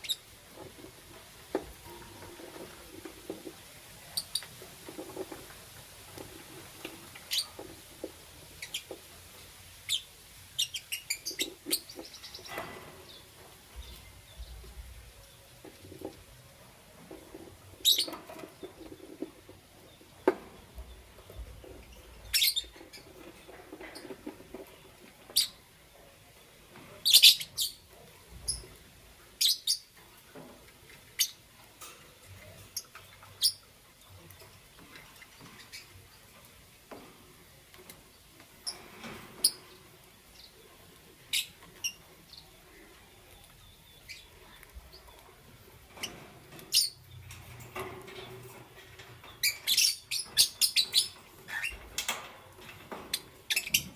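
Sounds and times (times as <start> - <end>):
lovebirds chirping: 0.0 - 53.9.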